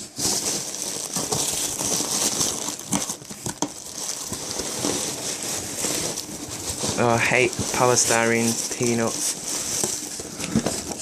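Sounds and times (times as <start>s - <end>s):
rustling packing peanuts: 0.0s - 11.0s.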